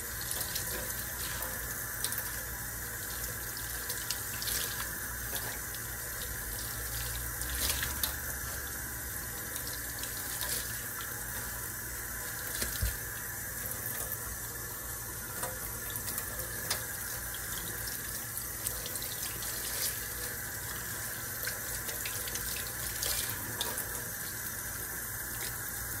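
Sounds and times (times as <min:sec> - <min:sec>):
sponge scrubbing sink: 0:00.0 - 0:14.4, 0:15.2 - 0:26.0.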